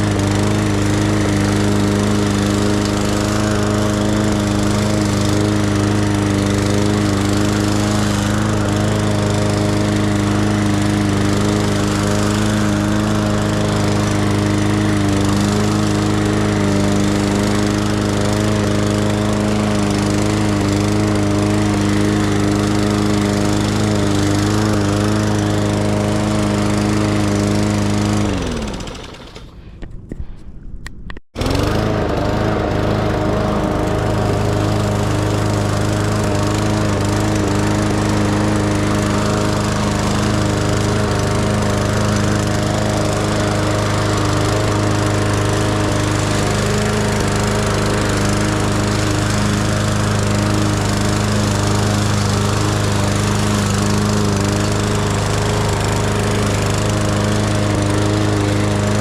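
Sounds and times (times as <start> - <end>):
lawn mower engine running: 0.0 - 29.8, 31.4 - 59.0.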